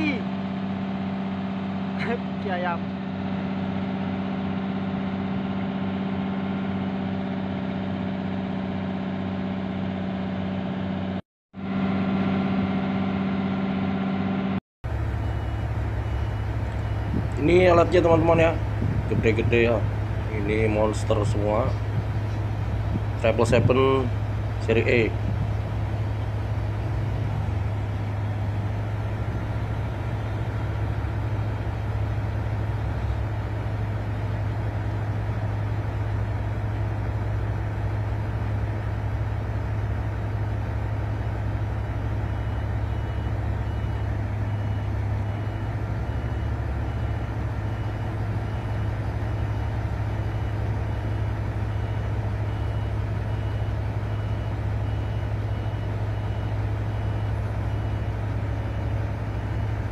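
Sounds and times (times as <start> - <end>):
heavy diesel machinery droning: 0.0 - 59.9.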